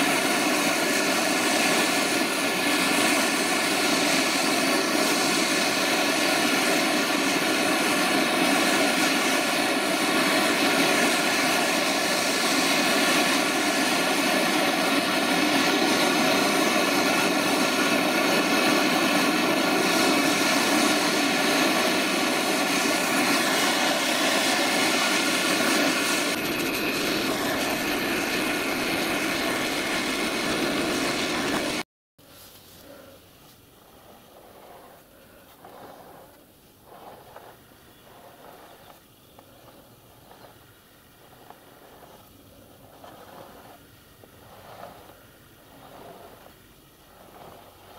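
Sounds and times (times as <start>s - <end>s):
blowtorch flame rushing: 0.0s - 47.9s.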